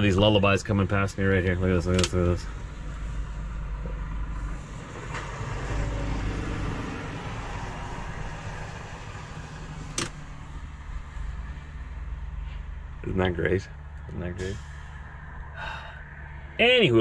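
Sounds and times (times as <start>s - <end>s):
steady low rumble: 0.0s - 5.8s, 6.6s - 17.0s
diesel truck driving past: 0.0s - 17.0s.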